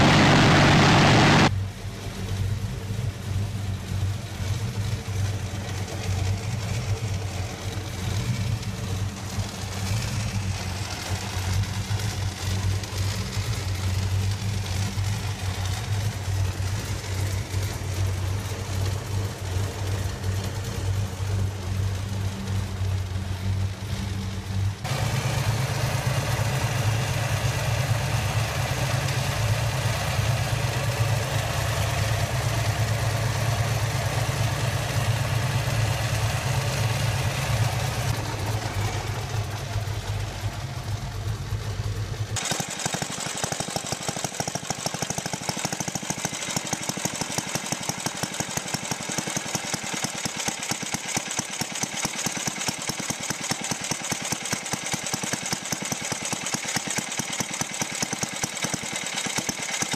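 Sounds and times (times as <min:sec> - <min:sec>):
small engine popping rapidly: 0:00.0 - 0:01.5, 0:04.5 - 0:40.0, 0:42.3 - 0:59.9
supercharged engine idling: 0:00.0 - 0:59.9.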